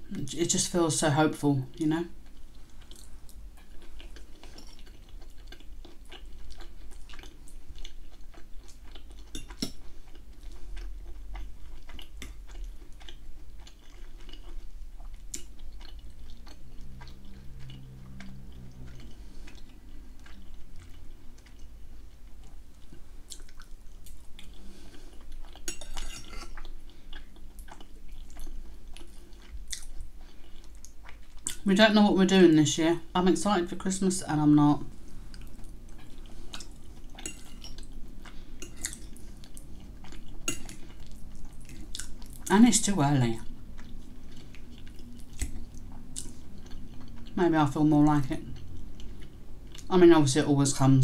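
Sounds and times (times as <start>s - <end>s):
chewing soft food: 1.7s - 31.7s, 34.4s - 50.0s.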